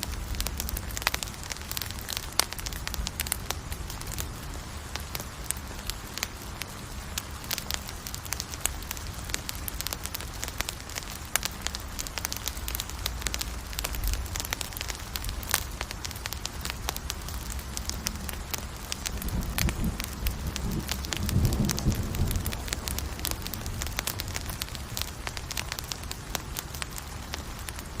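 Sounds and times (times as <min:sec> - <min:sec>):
campfire crackling and popping: 0:00.0 - 0:28.0
low fire rumble: 0:00.0 - 0:28.0.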